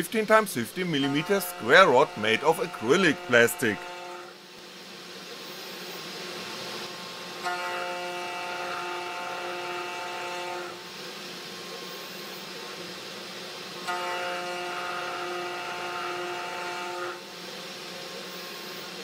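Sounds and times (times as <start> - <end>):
router spindle whine: 0.0 - 4.4, 5.4 - 10.8, 11.4 - 12.6, 13.8 - 19.0.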